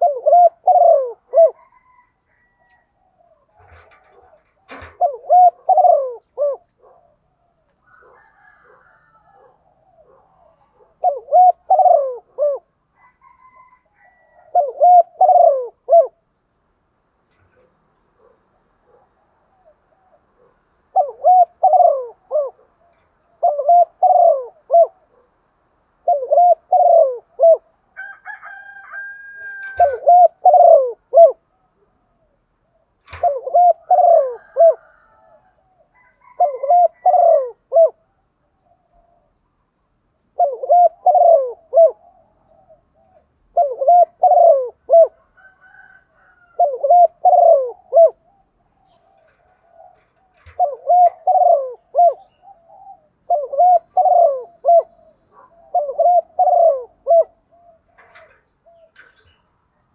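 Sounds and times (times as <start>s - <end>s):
dove cooing: 0.0s - 16.3s, 17.3s - 39.6s, 40.3s - 59.9s.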